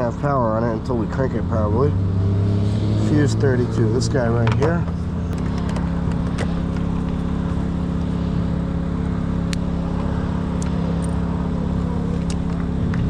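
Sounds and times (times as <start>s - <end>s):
generator engine running: 0.0s - 13.0s.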